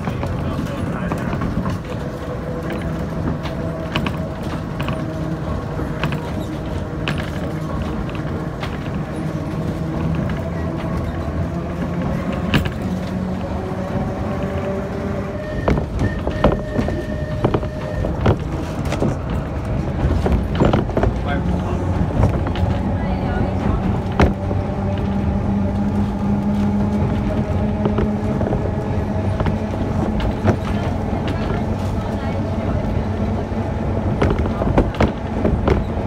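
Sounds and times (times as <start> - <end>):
tram rumble: 0.0 - 36.0
wheel clicks over rail joints: 0.0 - 36.0.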